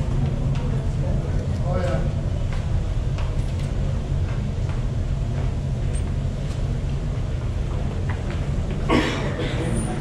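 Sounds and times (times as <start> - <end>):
generators rumbling and humming: 0.0 - 10.0.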